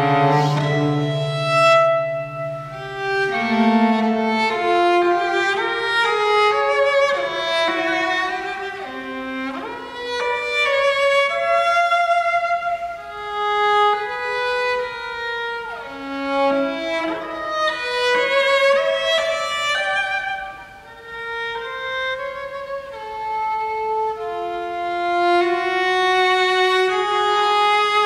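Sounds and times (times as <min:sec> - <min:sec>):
bowed cello sliding notes: 0:00.0 - 0:28.0.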